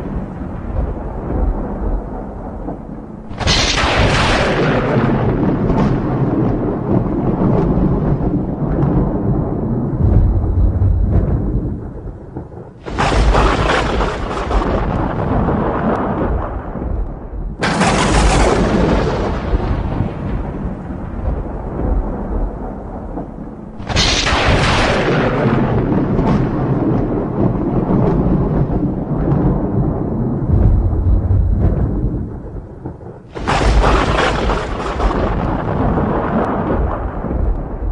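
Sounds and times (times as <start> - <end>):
low thunder rumble: 0.0 - 37.9
thunderclaps: 0.0 - 37.9.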